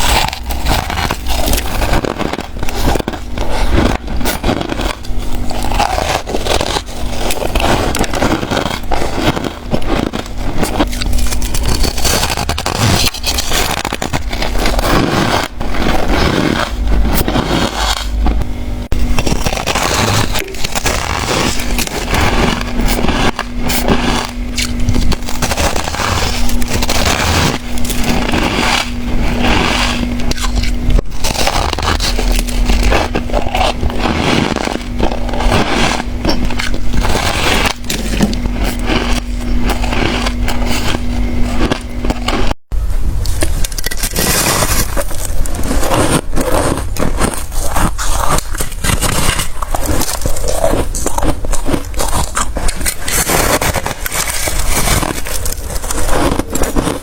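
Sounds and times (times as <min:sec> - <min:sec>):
ice crunching as it is chewed: 0:00.0 - 0:42.6, 0:43.2 - 0:57.0.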